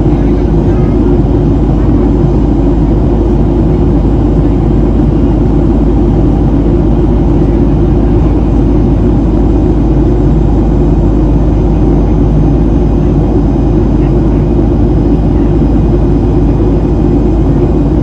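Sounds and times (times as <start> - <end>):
airflow over fuselage: 0.0 - 18.0
deep rumble of jet engines: 0.0 - 18.0.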